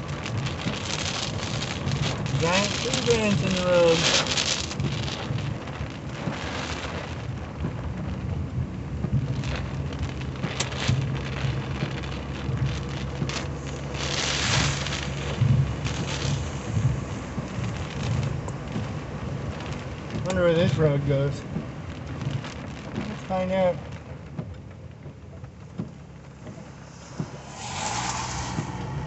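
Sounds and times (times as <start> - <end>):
engine and tyres on wet road: 0.0 - 29.0
heavy rain on car: 0.0 - 29.0.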